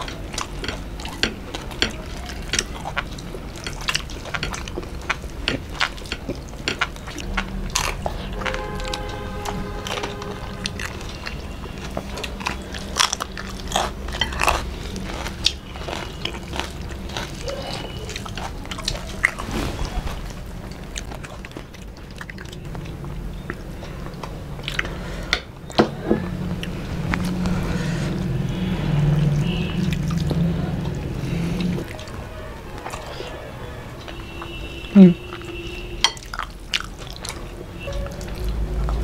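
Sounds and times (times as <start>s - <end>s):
people chewing crunchy food: 0.0s - 39.0s.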